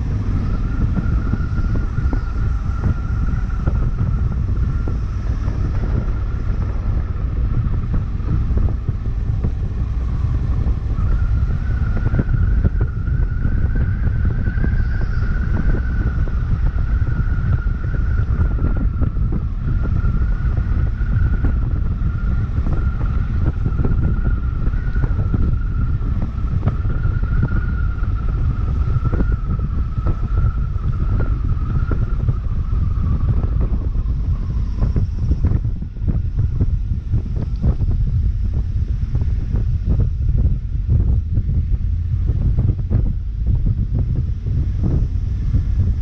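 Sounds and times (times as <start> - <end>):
steady high whine: 0.0 - 46.0
wind rumble on microphone: 0.0 - 46.0.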